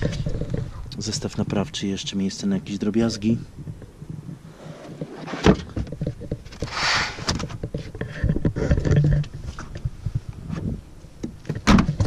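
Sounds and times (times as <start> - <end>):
small clicks and bumps: 0.0 - 1.8, 3.2 - 12.0.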